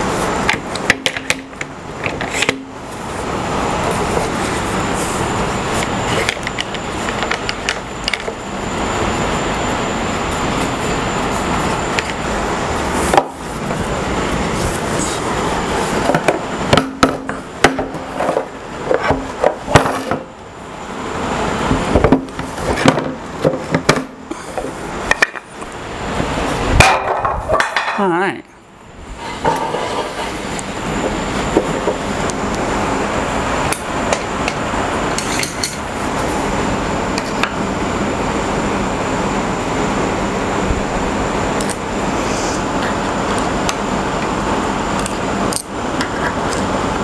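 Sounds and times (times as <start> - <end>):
rushing mechanical noise: 0.0 - 27.7, 28.6 - 47.0.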